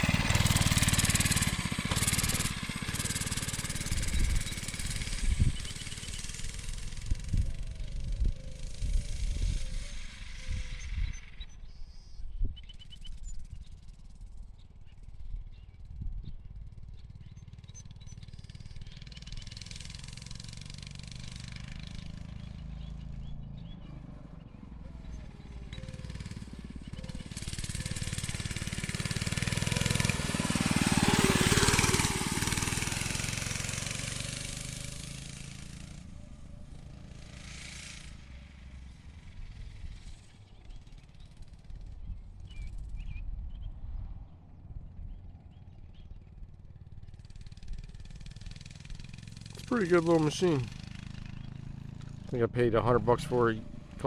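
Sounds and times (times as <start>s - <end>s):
pit bike engine riding around: 0.0s - 54.0s.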